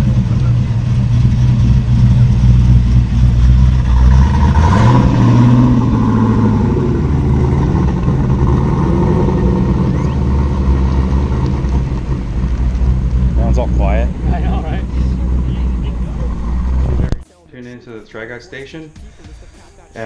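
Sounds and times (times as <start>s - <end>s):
car engine running: 0.0s - 17.3s.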